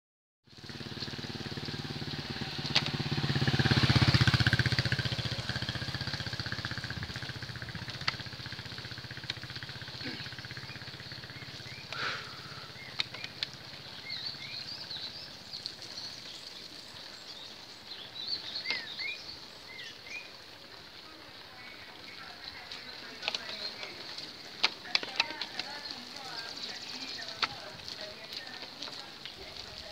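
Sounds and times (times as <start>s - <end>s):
engine hum: 0.5s - 29.9s
birds chirping: 0.6s - 29.9s.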